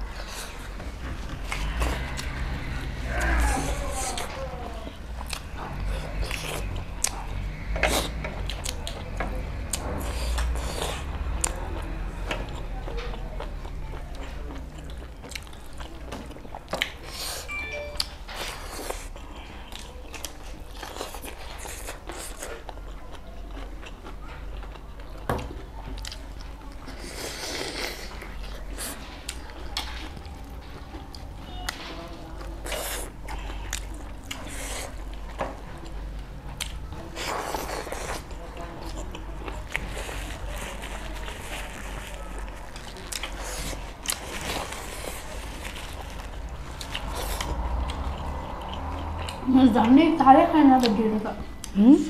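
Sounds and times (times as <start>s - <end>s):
people chewing and smacking: 0.0s - 52.0s.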